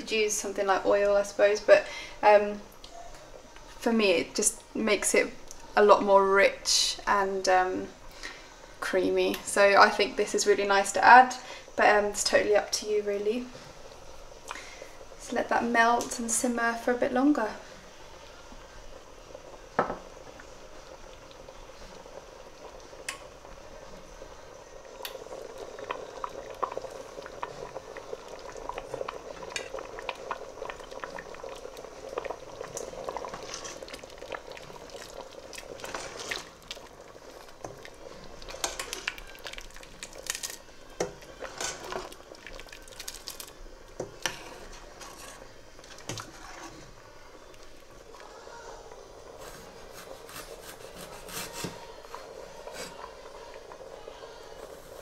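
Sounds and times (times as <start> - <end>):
pot bubbling: 0.0 - 55.0.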